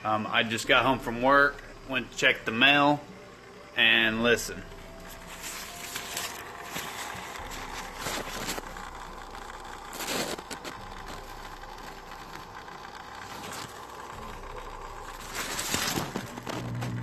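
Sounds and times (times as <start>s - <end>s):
aquarium filter humming: 0.0s - 17.0s.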